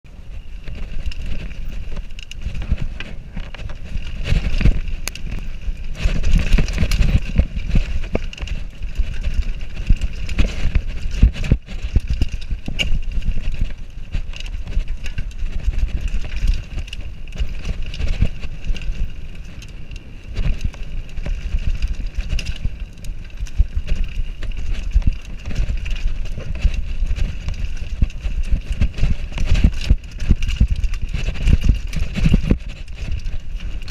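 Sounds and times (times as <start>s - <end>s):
mountain bike rattling: 0.1s - 33.9s
tyre rumble: 0.1s - 33.9s
bike knocking over roots: 0.4s - 33.9s.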